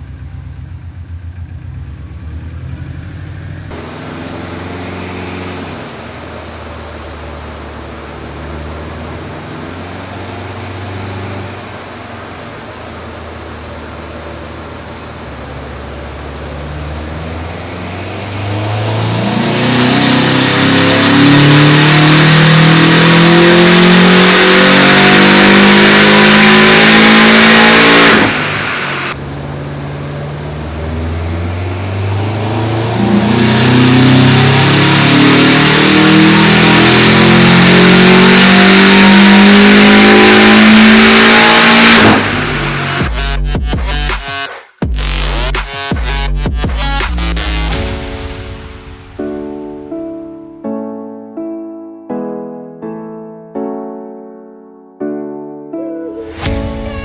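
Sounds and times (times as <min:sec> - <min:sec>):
car engine revving at full throttle: 0:00.0 - 0:44.2, 0:45.0 - 0:49.0.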